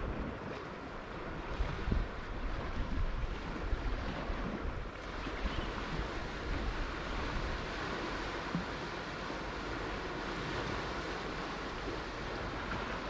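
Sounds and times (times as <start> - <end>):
ocean waves on shore: 0.0 - 13.0
wind buffeting microphone: 0.0 - 13.0.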